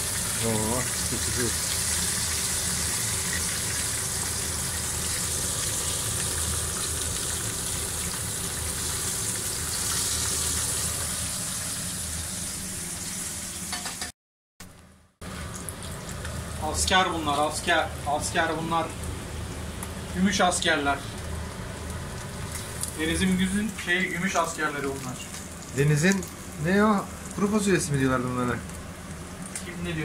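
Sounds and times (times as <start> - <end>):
fish frying in oil: 0.0 - 14.1, 15.2 - 30.0.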